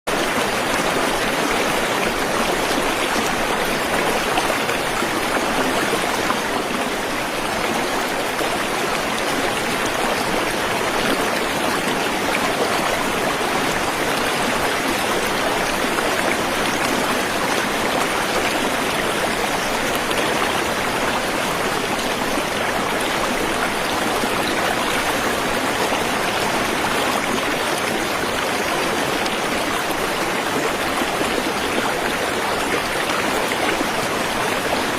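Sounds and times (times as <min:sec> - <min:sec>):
waterfall and stream rushing: 0:00.1 - 0:34.9.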